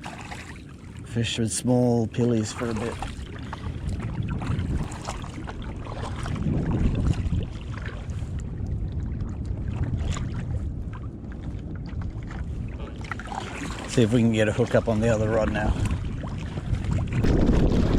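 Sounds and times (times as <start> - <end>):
water sloshing around kayak: 0.0 - 17.9
wind on microphone: 2.0 - 17.9.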